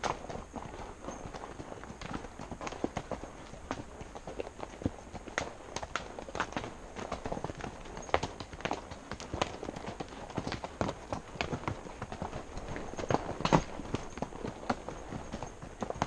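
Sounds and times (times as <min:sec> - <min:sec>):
horse hooves on rocky trail: 0:00.0 - 0:16.0.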